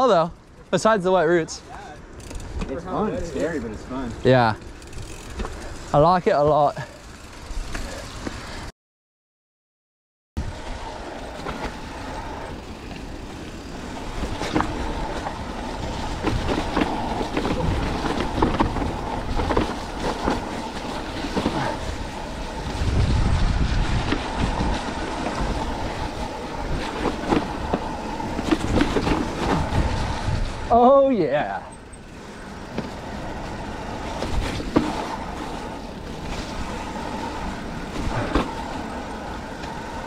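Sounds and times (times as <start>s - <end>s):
bike tyres on dirt: 0.0s - 8.7s, 10.4s - 40.0s
bike clattering over bumps: 2.1s - 8.4s, 11.3s - 30.7s, 31.7s - 39.8s.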